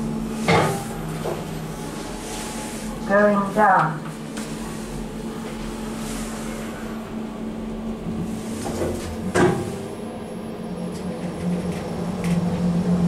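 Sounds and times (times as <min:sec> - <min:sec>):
lift humming: 0:00.0 - 0:13.0.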